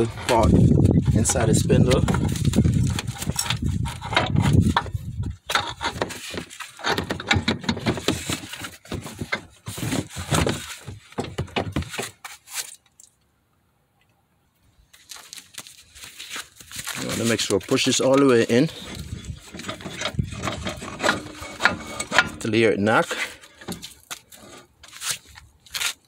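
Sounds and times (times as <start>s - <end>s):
metal parts clattering and scraping: 0.0s - 13.0s, 15.1s - 26.0s.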